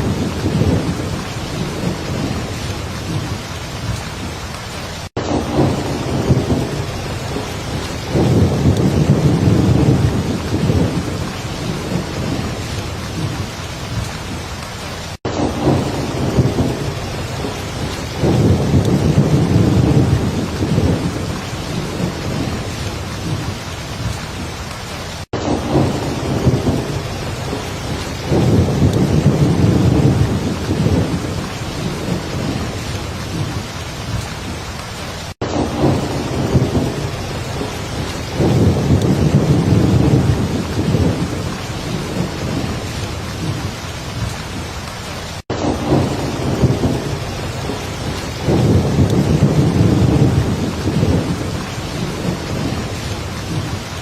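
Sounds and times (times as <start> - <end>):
heavy rain hissing: 0.0 - 54.0
thunder rumbling: 0.0 - 54.0.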